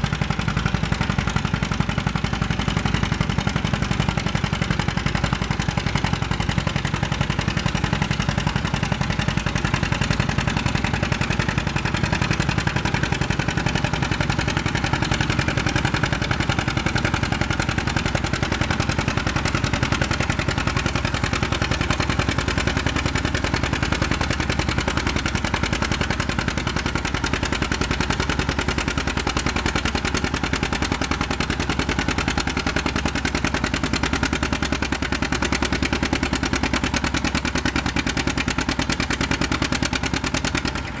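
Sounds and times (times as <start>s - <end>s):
tractor engine working under load: 0.0s - 41.0s.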